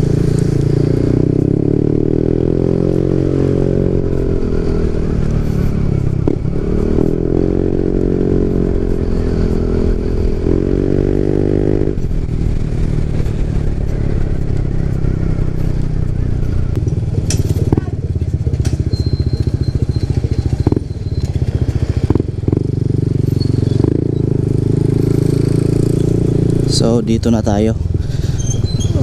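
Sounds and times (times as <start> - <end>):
scooter engine running: 0.0 - 27.2.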